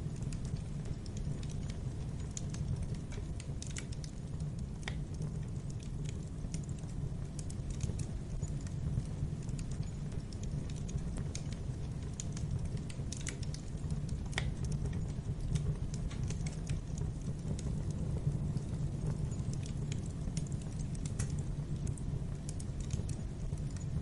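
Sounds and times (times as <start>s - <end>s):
steady low rumble: 0.0s - 24.0s
wood fire crackling and popping: 0.0s - 24.0s.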